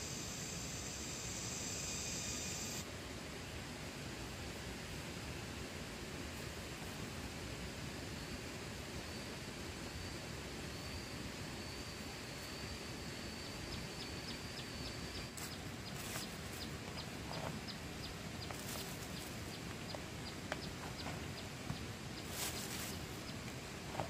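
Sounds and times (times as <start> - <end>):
outdoor hiss: 0.0 - 24.0.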